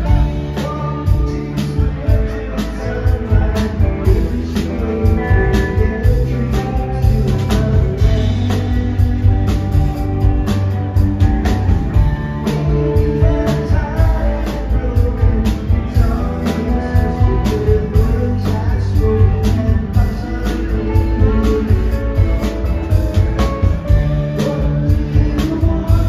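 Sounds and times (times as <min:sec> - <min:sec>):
live rock band playing: 0:00.0 - 0:26.0
steady drumbeat: 0:00.0 - 0:26.0.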